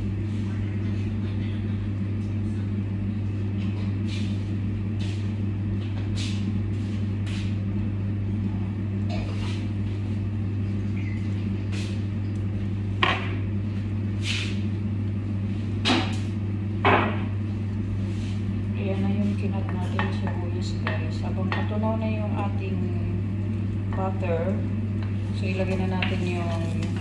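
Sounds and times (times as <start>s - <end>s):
kitchen machine humming: 0.0s - 27.0s.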